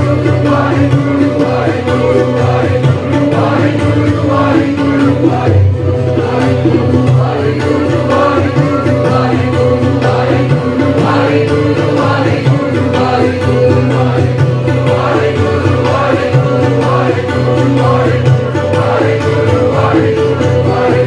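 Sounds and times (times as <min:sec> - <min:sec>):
steady held drone: 0:00.0 - 0:21.0
voices singing: 0:00.0 - 0:21.0.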